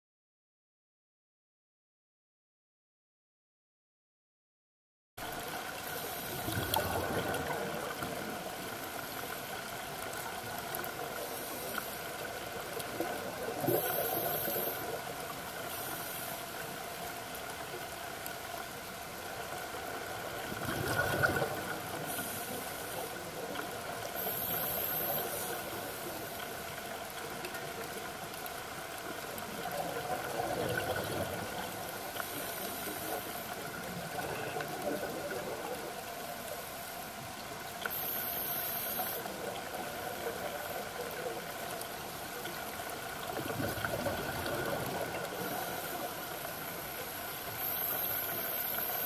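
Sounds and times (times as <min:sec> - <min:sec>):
scuba bubbles: 0:05.2 - 0:49.0
muffled underwater hiss: 0:05.3 - 0:49.0.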